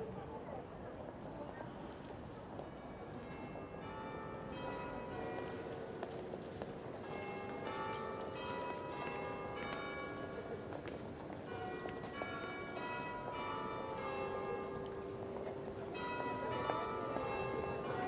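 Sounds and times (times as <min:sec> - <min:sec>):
church bells ringing: 0:02.8 - 0:18.0.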